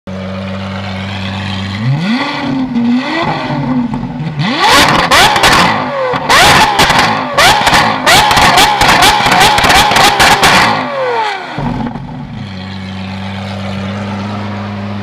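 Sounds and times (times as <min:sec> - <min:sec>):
sports car engine revving: 0:00.3 - 0:15.0.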